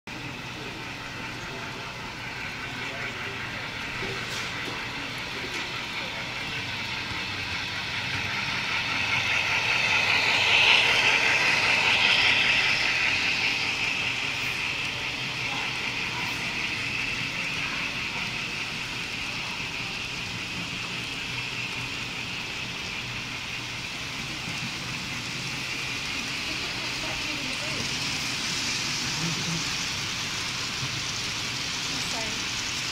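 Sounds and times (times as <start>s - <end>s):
model train motors whirring: 0.2s - 32.9s
wheels rolling on track: 0.5s - 32.9s.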